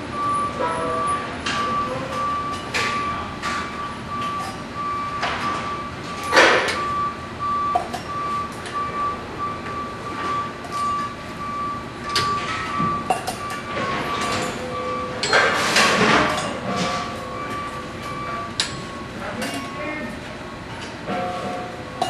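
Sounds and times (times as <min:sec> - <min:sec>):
industrial background noise: 0:00.0 - 0:22.0
high beep: 0:00.2 - 0:15.4, 0:16.4 - 0:18.8.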